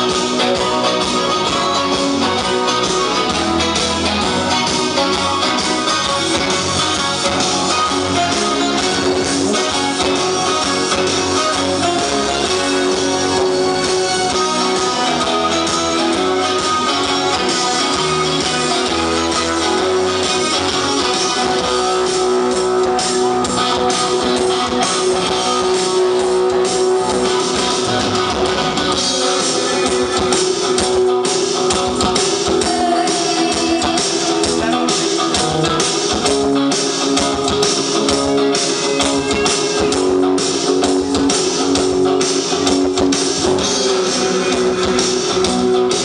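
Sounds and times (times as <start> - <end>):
rock and roll music: 0.0 - 46.0.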